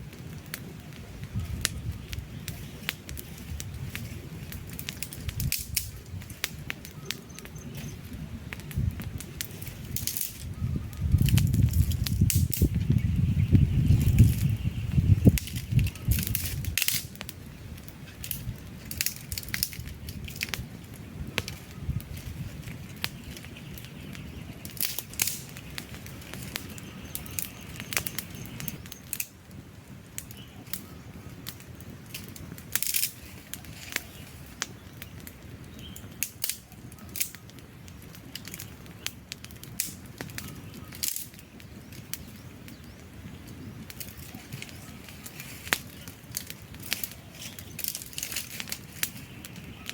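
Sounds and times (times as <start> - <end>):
logs crackling and popping: 0.0 - 49.9
low rumble of flames: 0.0 - 49.9.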